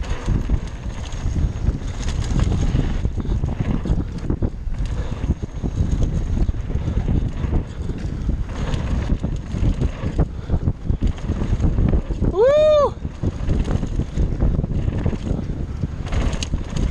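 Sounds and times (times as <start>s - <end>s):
bike knocking and rattling: 0.0s - 16.9s
wind buffeting microphone: 0.0s - 16.9s.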